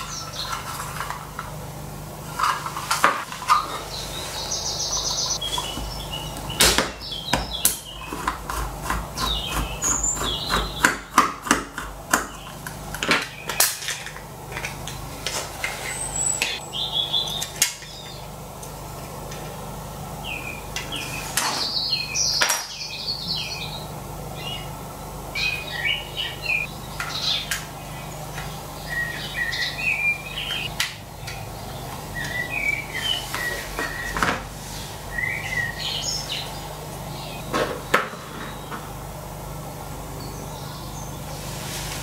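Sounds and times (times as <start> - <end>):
birds chirping: 0.0 - 11.3, 12.1 - 18.5, 19.2 - 42.0.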